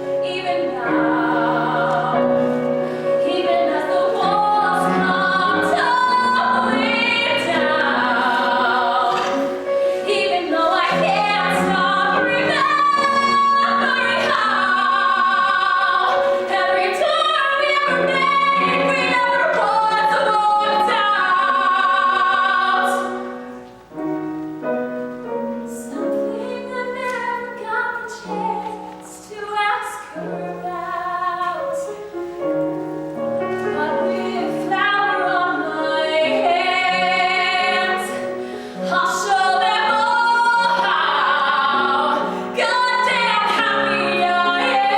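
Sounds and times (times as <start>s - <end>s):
woman singing with vibrato: 0.0s - 23.4s, 25.6s - 32.0s, 33.6s - 44.9s.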